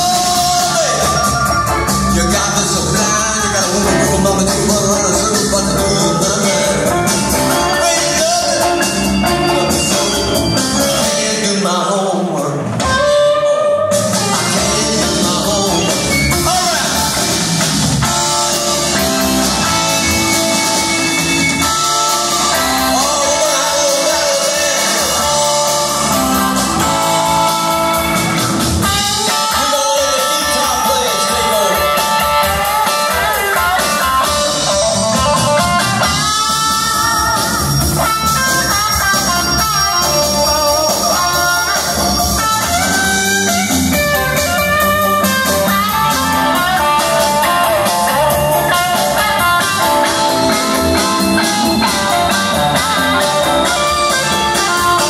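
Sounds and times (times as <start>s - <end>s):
electric guitar bent notes: 0.0s - 11.6s, 12.6s - 55.0s
bass guitar: 0.0s - 55.0s
drum kit: 0.0s - 55.0s.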